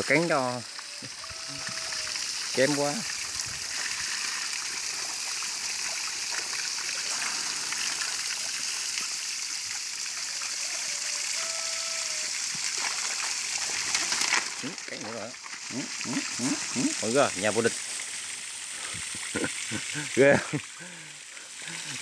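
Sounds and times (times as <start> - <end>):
hose water splashing on rocks: 0.0 - 22.0.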